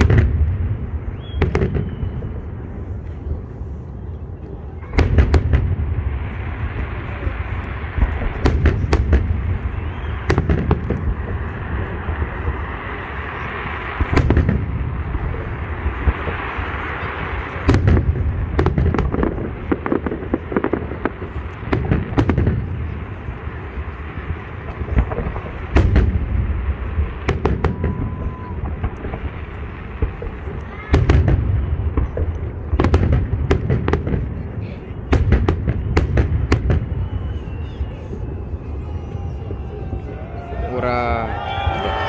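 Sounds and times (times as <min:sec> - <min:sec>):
firework shells booming: 0:00.0 - 0:02.8, 0:04.8 - 0:38.0
firework pops and crackles: 0:00.0 - 0:03.6, 0:04.4 - 0:40.4.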